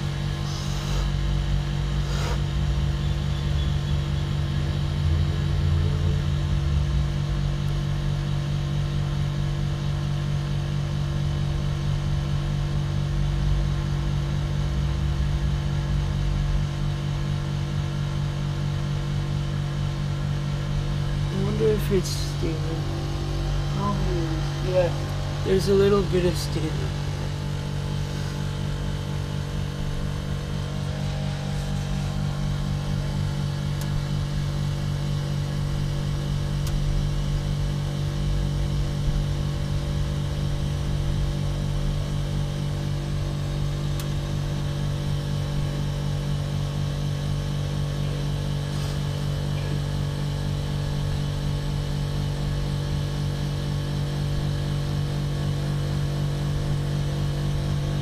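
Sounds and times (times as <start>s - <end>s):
air conditioner compressor humming: 0.0s - 58.0s.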